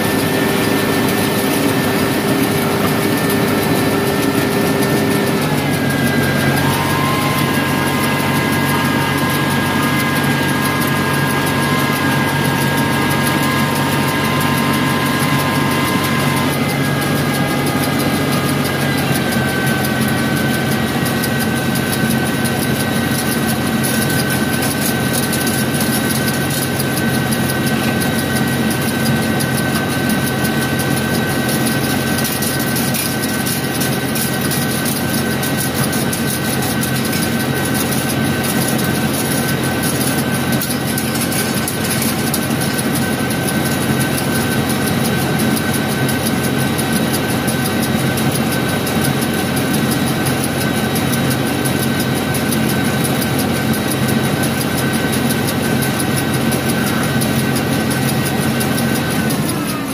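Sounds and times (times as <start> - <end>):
baler whining mechanical din: 0.0 - 59.9
tractor engine running: 0.0 - 59.9.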